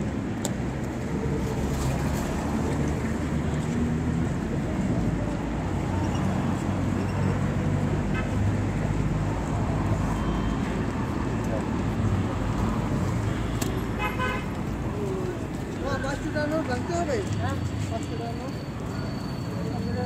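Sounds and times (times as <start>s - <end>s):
street traffic engines: 0.0s - 20.0s.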